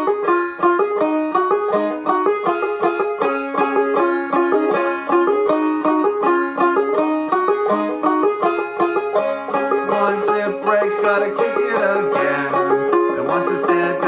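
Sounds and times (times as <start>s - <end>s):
banjo plucking and strumming: 0.0s - 14.0s.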